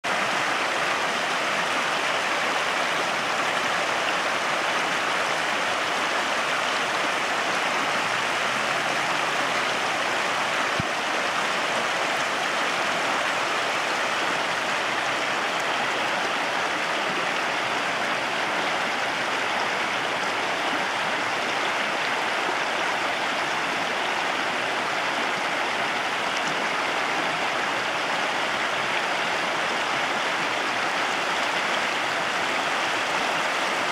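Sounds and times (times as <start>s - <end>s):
stream running over rocks: 0.1s - 33.9s.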